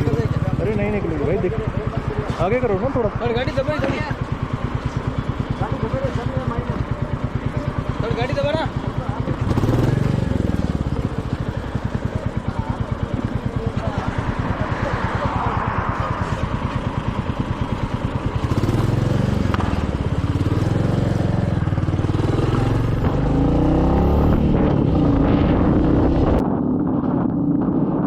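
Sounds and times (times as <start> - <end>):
motorcycle engine thumping: 0.0 - 27.8
wind and road noise: 0.0 - 28.0.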